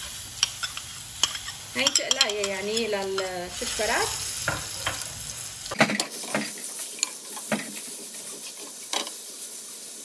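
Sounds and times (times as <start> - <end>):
garlic sizzling in a pan: 0.0 - 10.0.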